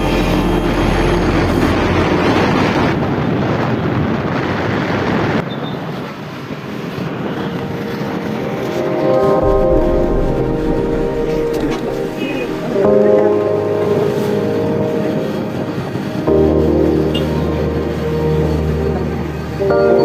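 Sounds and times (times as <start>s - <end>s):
moving vehicle noise: 0.0s - 20.0s
wind rushing over microphone: 0.0s - 20.0s.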